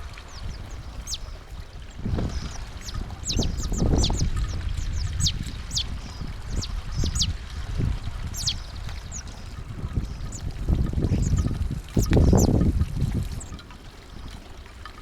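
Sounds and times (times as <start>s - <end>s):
songbirds high thin calls: 0.0s - 12.6s, 13.3s - 14.4s.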